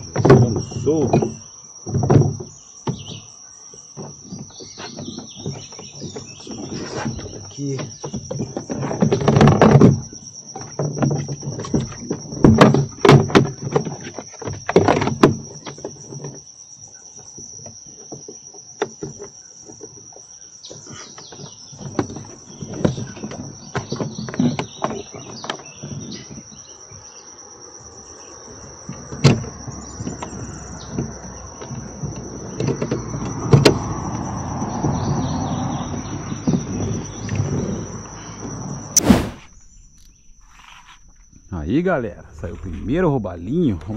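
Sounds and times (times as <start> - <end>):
high-pitched insect trill: 0.0 - 43.9.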